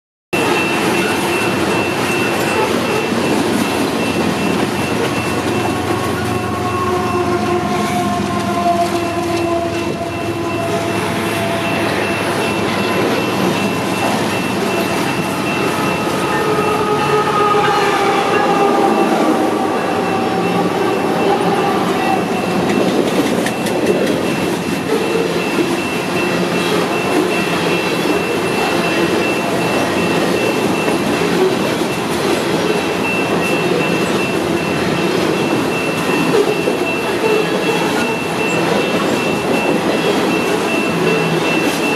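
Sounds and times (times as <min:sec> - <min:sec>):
freight train rolling on rails: 0:00.4 - 0:41.9.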